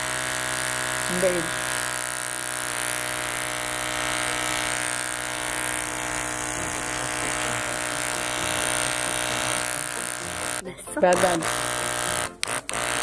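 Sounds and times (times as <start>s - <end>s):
small electric motor buzzing: 0.0s - 13.0s
spray hissing: 0.0s - 13.0s.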